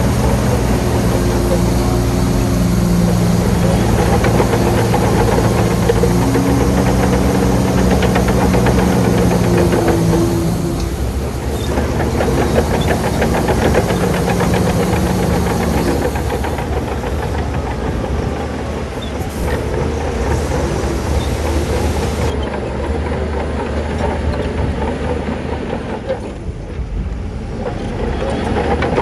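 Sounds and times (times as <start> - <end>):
diesel engine under load: 0.0 - 29.0
steel tracks clattering: 0.0 - 29.0.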